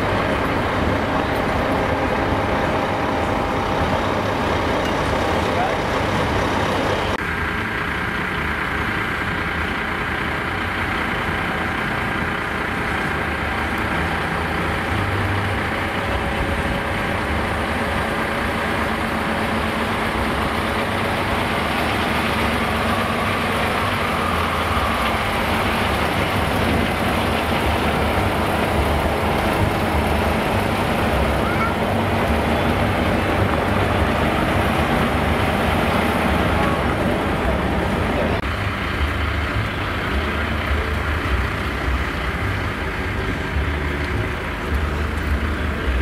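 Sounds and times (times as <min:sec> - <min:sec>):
truck diesel engine running: 0:00.0 - 0:46.0.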